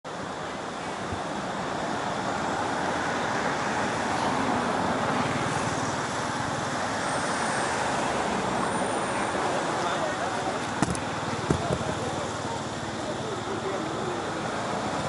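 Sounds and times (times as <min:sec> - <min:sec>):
rushing outdoor background noise: 0:00.1 - 0:15.0.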